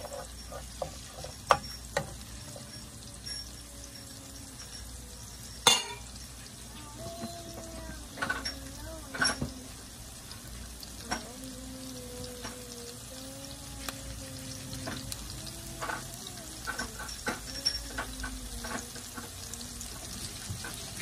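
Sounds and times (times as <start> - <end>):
garlic sizzling in oil: 0.0 - 21.0.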